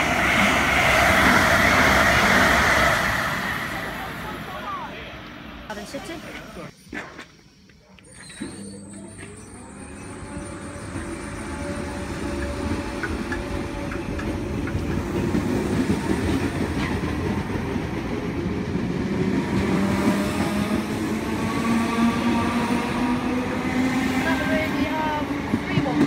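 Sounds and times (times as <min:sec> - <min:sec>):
train wheels rumbling on rail: 0:00.0 - 0:05.5, 0:09.3 - 0:26.0.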